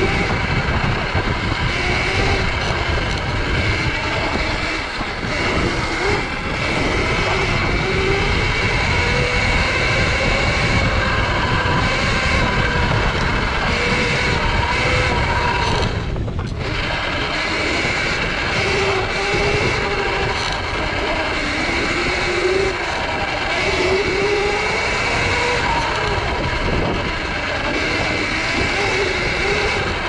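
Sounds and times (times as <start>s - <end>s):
electric motor whine: 0.0s - 30.0s
steady rushing noise: 0.0s - 30.0s.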